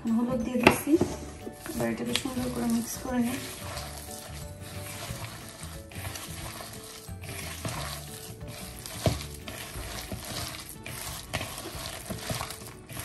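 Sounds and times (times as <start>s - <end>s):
hand squelching wet batter: 0.8s - 13.0s.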